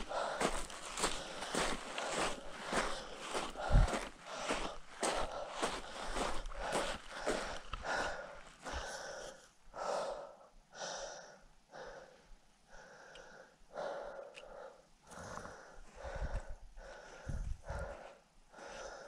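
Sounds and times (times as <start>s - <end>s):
person breathing hard: 0.0s - 19.0s.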